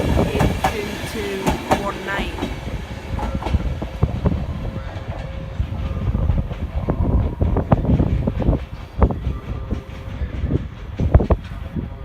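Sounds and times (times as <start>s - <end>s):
train rumble: 0.0s - 12.0s
train wheels clacking: 0.0s - 12.0s.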